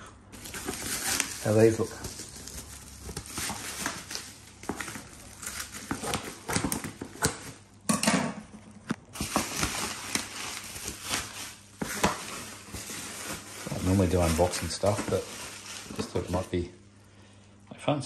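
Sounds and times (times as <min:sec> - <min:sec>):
plastic wrap crinkling: 0:00.3 - 0:07.9, 0:08.6 - 0:17.1.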